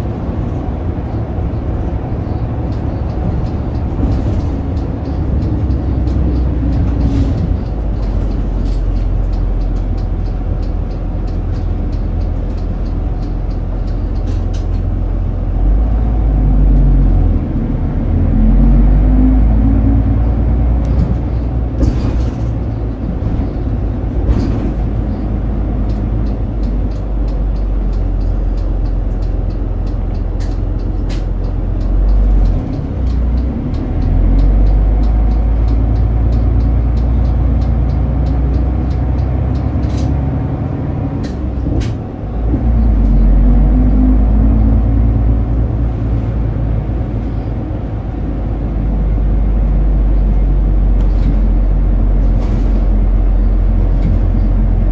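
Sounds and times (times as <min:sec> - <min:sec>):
bus diesel engine rumble: 0:00.0 - 0:54.9.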